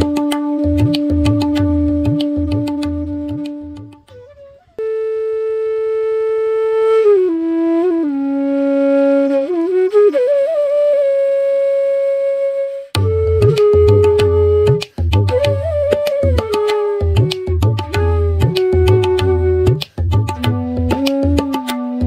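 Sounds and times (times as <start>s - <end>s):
flute playing slow melody: 0.0s - 22.0s.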